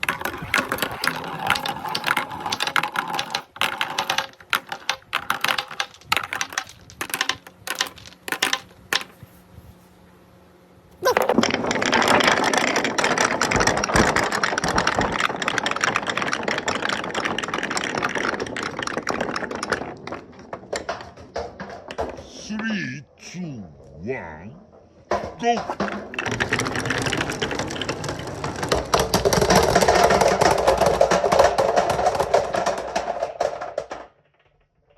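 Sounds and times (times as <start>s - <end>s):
marbles rolling and clacking on wood: 0.0s - 9.4s, 11.0s - 22.7s, 24.7s - 34.9s.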